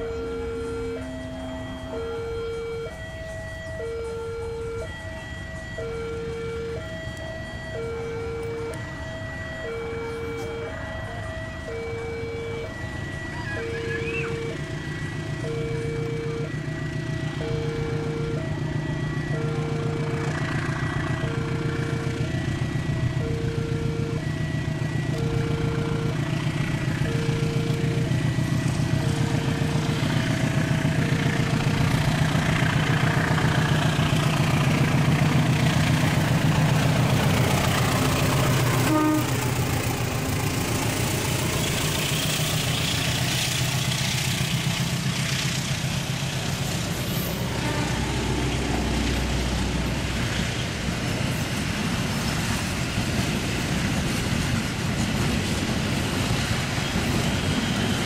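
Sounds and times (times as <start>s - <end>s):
diesel locomotive engine: 0.0s - 58.0s
train wheels rumbling on rails: 0.0s - 58.0s.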